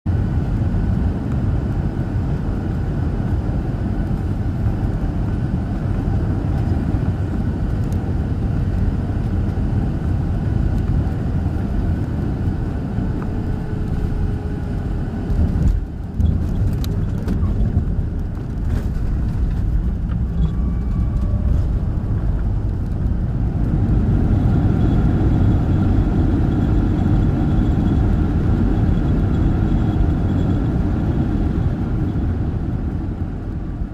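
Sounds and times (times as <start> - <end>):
airliner engines rumbling: 0.1 - 33.9
high engine whine: 0.1 - 33.9.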